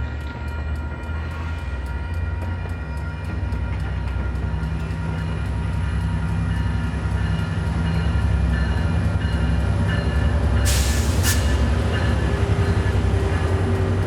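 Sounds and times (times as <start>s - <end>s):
crossing warning bells ringing: 0.0s - 14.0s
train engine rumble: 0.0s - 14.0s.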